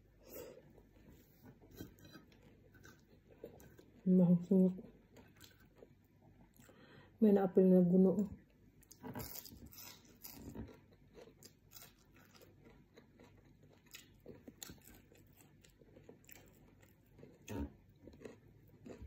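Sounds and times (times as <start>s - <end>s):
person chewing with crunches: 0.3s - 4.1s, 4.8s - 6.8s, 8.8s - 19.0s.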